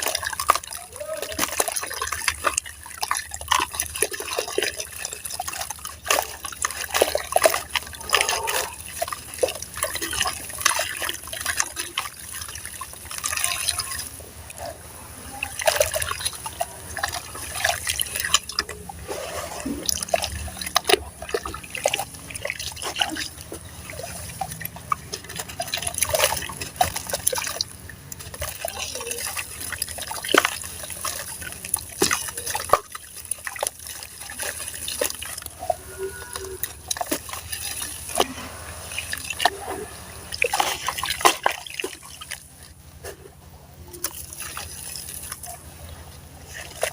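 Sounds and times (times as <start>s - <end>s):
water trickling and dripping: 0.0s - 43.0s, 43.9s - 46.9s.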